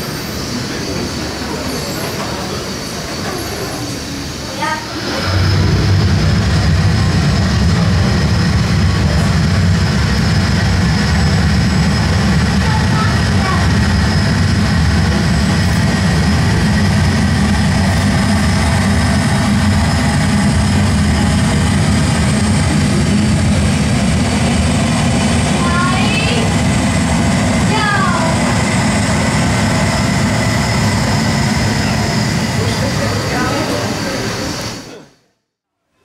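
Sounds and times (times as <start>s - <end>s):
aircraft engine over loudspeakers: 0.0s - 35.1s.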